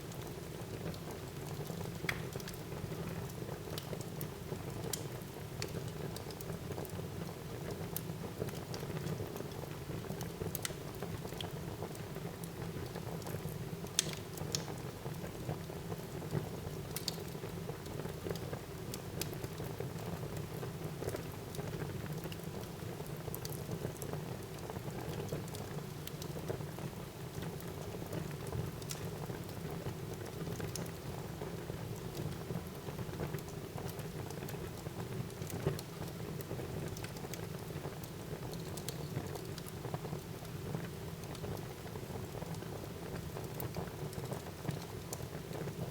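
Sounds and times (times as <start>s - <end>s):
wood fire crackling and popping: 0.1s - 45.9s.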